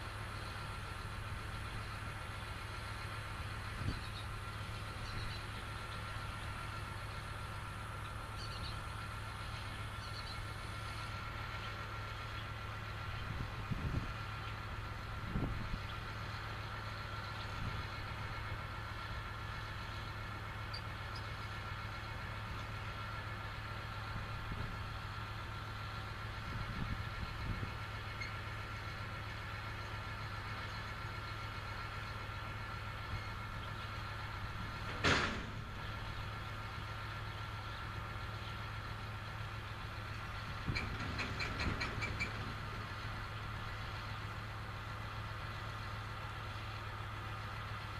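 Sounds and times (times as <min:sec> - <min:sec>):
engine humming with faint whine: 0:00.0 - 0:47.9.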